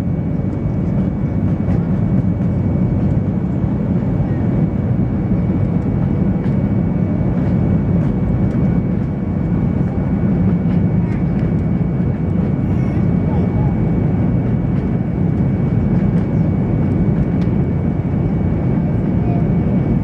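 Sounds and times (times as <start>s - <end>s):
jet engines droning in cabin: 0.0s - 20.0s.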